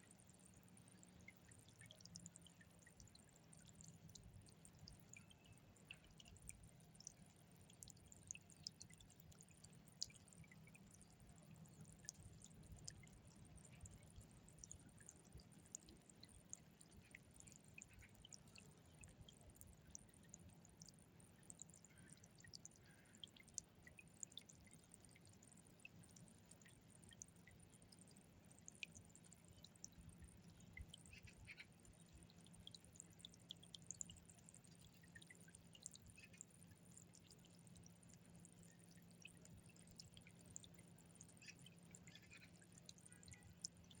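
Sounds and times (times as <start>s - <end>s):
fountain water dripping and splashing: 0.0s - 44.0s.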